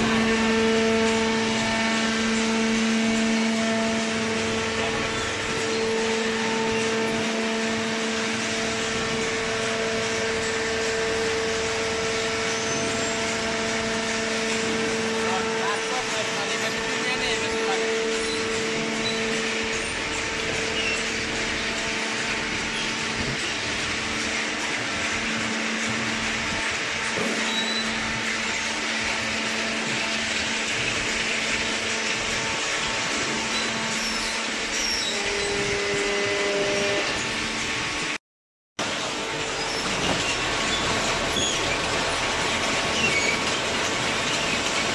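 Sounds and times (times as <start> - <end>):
machine motor hum: 0.0 - 38.2.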